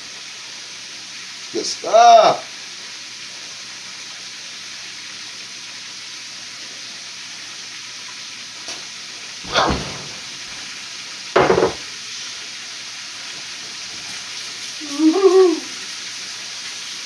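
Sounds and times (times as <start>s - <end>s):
livers sizzling in a skillet: 0.0s - 17.0s.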